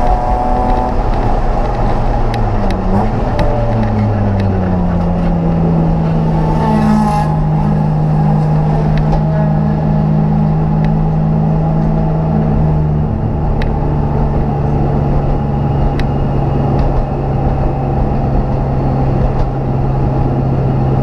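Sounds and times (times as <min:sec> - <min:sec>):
race car engine at low revs: 0:00.0 - 0:21.0.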